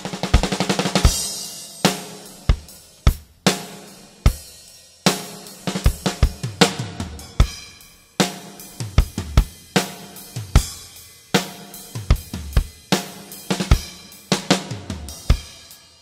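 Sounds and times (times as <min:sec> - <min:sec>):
drum fills on kick snare and toms: 0:00.0 - 0:16.0.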